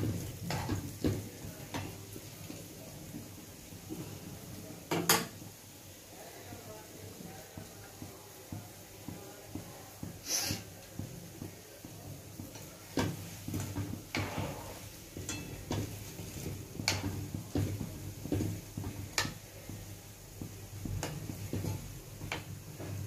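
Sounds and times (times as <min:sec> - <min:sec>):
oil sizzling: 0:00.0 - 0:23.0.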